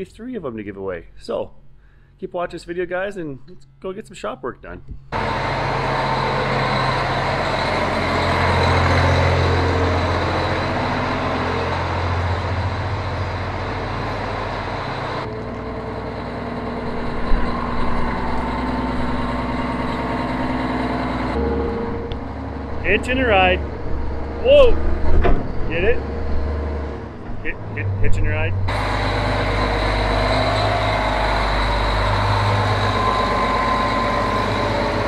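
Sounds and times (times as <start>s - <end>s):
tractor diesel engine running: 5.1s - 35.0s.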